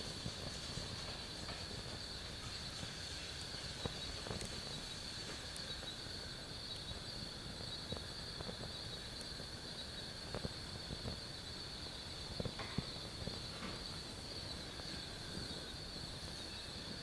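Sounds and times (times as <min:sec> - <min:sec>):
night insects chirring: 0:00.0 - 0:17.0
wood fire crackling: 0:00.0 - 0:17.0.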